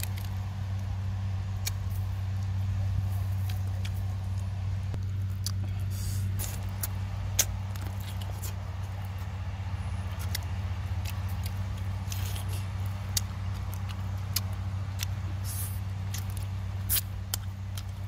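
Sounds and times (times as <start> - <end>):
person chewing crunchy food: 0.0 - 18.0
steady low hum: 0.0 - 18.0.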